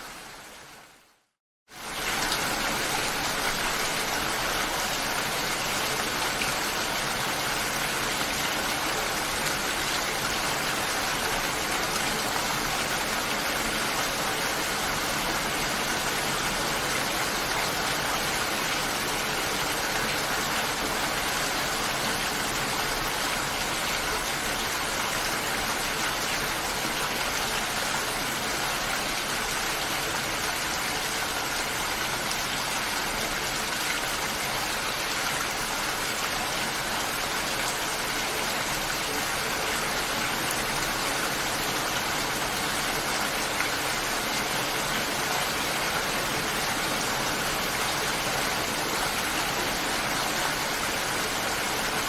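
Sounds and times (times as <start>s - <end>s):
heavy rainfall: 0.0s - 52.0s.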